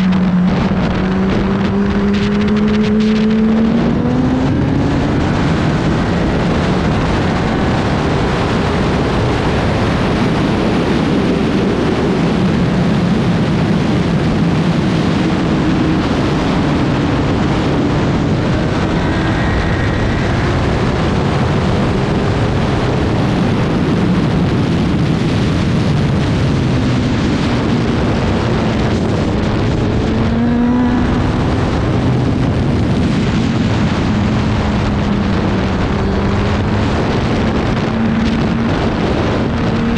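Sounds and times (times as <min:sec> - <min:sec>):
racing motorcycle engine: 0:00.0 - 0:39.9
wind rushing: 0:00.0 - 0:39.9.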